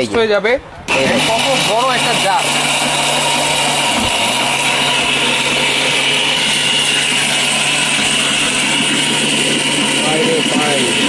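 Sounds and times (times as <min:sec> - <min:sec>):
blender whirring: 0:00.9 - 0:11.0.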